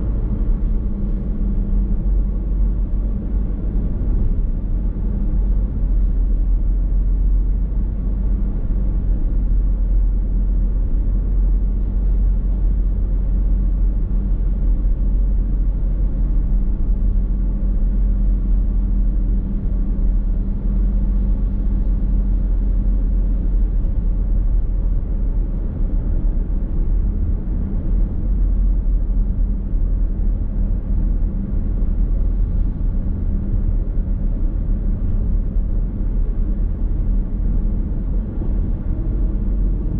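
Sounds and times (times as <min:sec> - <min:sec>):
road and tyre noise: 0:00.0 - 0:39.9
steady hum: 0:00.0 - 0:39.9.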